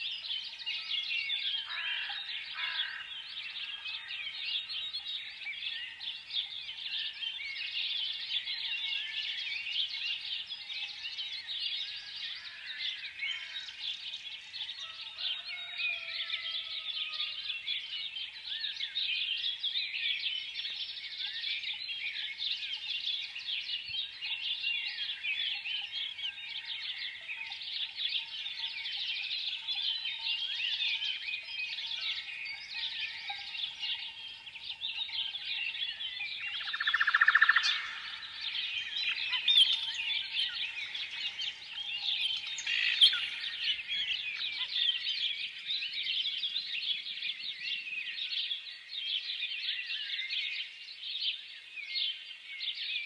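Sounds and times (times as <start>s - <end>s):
sparrows chirping: 0.0s - 53.0s.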